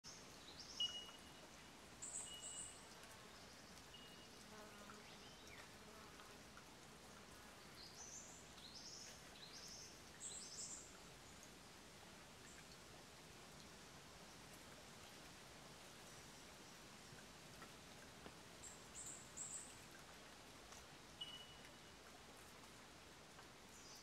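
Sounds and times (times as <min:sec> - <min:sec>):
quiet steady hiss: 0:00.0 - 0:24.0.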